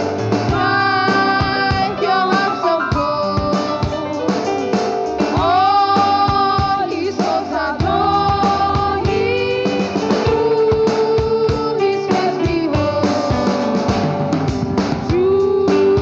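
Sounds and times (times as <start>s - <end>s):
guitar: 0.0s - 16.0s
people singing long notes: 0.0s - 16.0s
steady drum beat: 0.0s - 16.0s.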